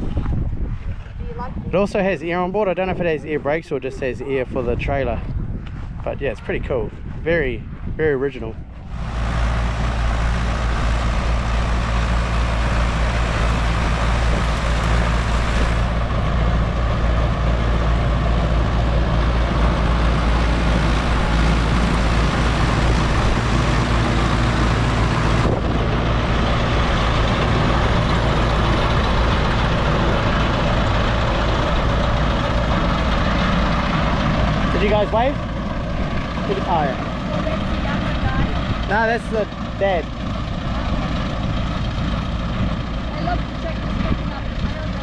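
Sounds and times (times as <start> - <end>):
vehicle engine running steadily: 0.0 - 45.0.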